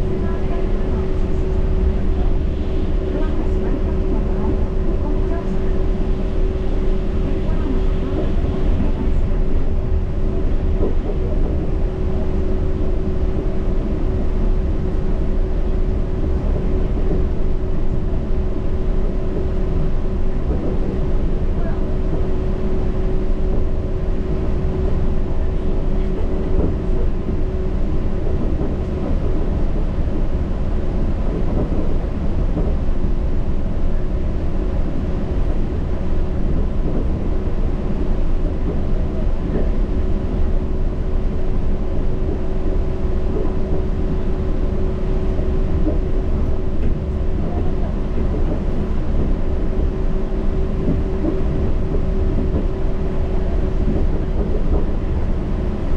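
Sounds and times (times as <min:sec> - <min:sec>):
train running on track: 0:00.0 - 0:55.9.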